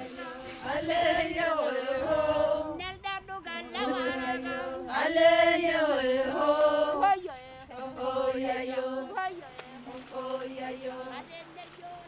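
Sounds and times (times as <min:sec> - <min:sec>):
voices singing a chant: 0:00.0 - 0:12.0.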